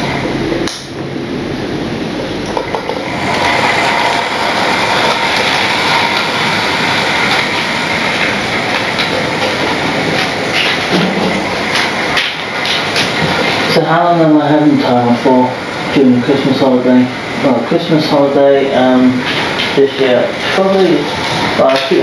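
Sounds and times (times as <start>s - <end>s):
model train running on rails: 2.6s - 22.0s.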